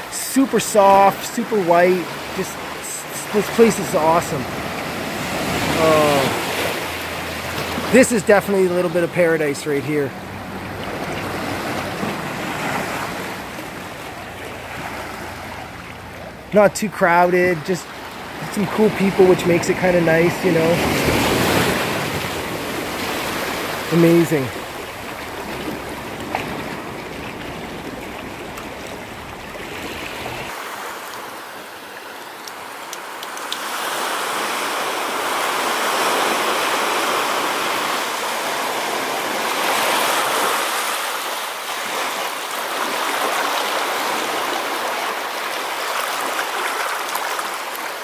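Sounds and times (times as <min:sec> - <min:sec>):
small waves washing onto beach: 0:00.0 - 0:48.0.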